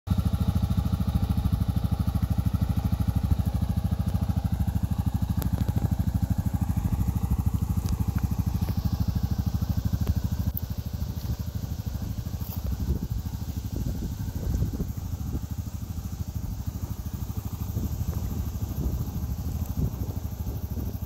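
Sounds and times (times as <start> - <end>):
engine idling: 0.1 - 21.0.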